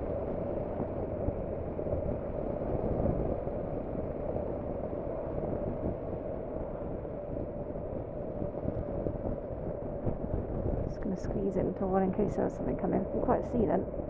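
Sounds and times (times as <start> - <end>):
muffled wind and road noise: 0.0 - 14.0.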